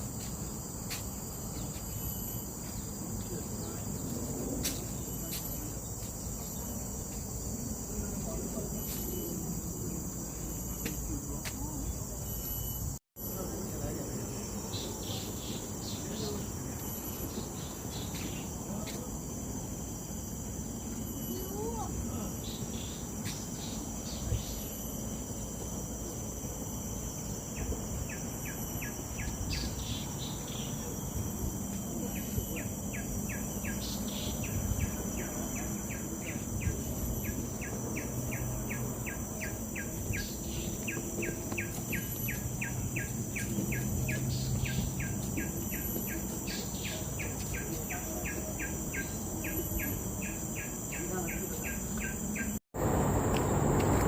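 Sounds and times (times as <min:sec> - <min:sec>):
high-pitched insect drone: 0:00.0 - 0:54.0
insect chirps: 0:00.0 - 0:54.0.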